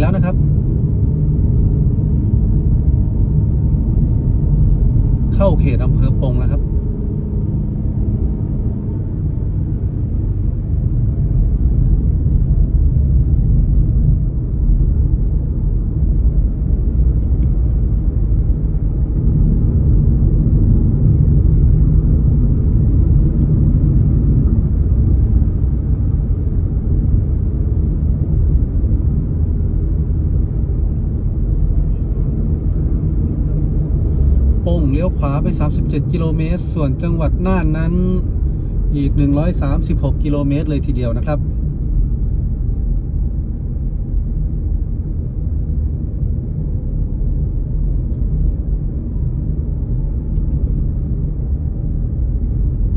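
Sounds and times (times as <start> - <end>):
car engine drone: 0.0 - 52.9
road and tyre noise: 0.0 - 52.9.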